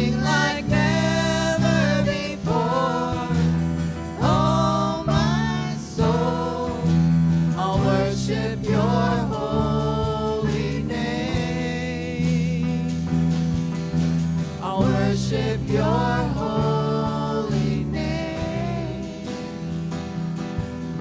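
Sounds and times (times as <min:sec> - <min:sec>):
singers performing worship song: 0:00.0 - 0:20.6
guitar: 0:00.0 - 0:21.0
sustained low chords: 0:00.0 - 0:21.0.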